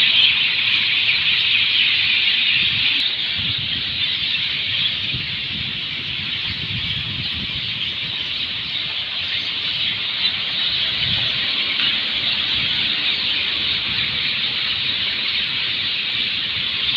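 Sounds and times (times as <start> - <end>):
flock of birds chirping: 0.0 - 16.9.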